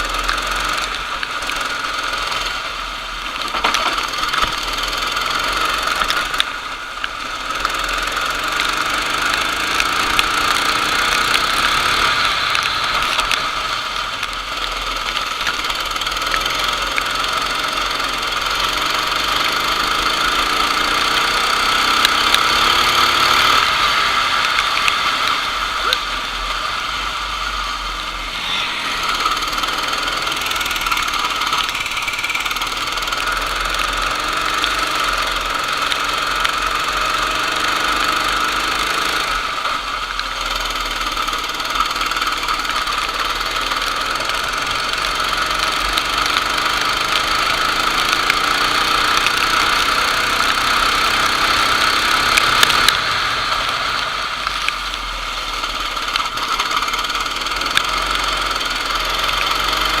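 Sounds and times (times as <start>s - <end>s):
go-kart engine revving: 0.0s - 60.0s.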